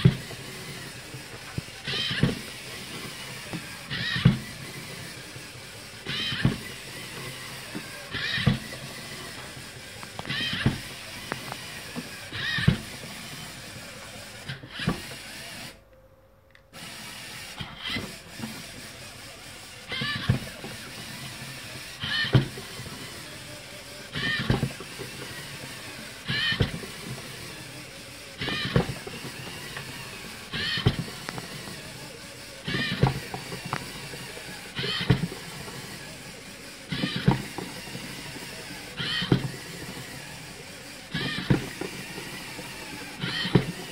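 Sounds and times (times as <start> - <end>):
plastic feet clacking on wood: 0.0 - 13.7, 19.9 - 43.9
servo motors whining: 0.0 - 16.0, 16.6 - 43.9.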